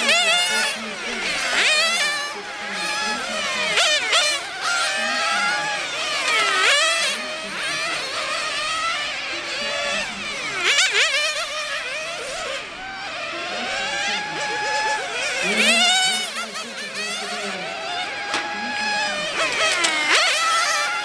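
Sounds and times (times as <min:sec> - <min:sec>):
rc car engines buzzing past: 0:00.0 - 0:21.0.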